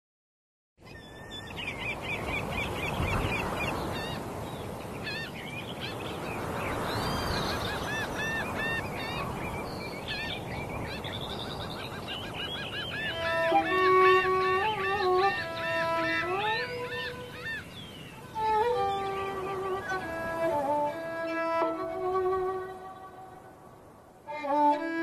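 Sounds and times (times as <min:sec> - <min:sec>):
birds chirping: 0:00.8 - 0:25.0.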